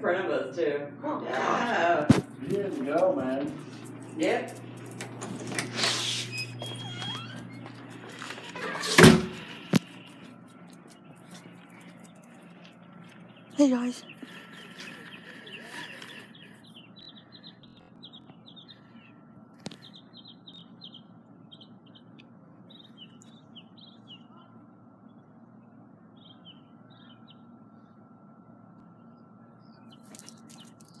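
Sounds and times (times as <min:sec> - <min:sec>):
faint steady hum: 0:00.0 - 0:31.0
small birds chirping: 0:02.2 - 0:31.0.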